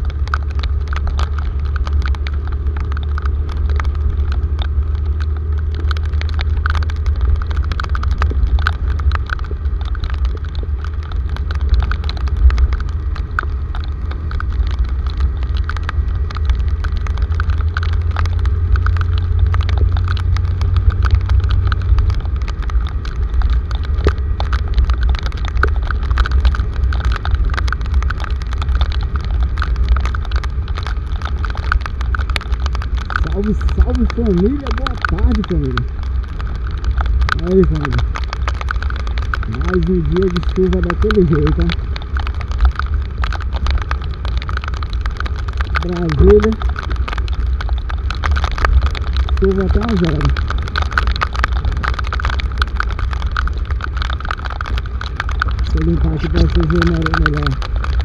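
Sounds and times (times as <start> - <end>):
raindrops ticking on car: 0.0 - 58.0
road and engine rumble: 0.0 - 58.0.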